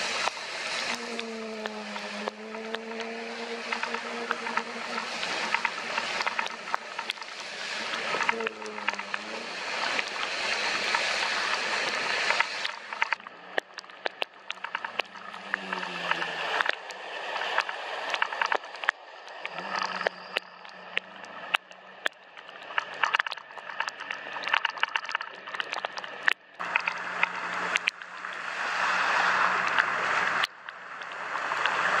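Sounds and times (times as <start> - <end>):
tyres hissing on wet road: 0.0 - 13.6, 14.8 - 21.6, 26.6 - 32.0
raindrops tapping on camera: 0.0 - 28.5, 29.4 - 32.0.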